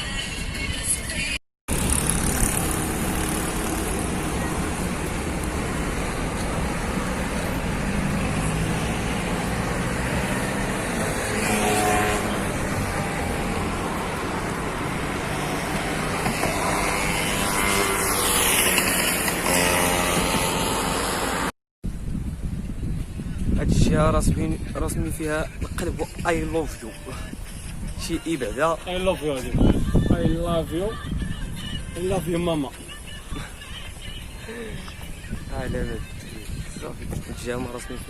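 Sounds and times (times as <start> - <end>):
vehicles passing by: 0.0 - 21.5, 23.0 - 38.0
steady road noise: 0.0 - 38.0.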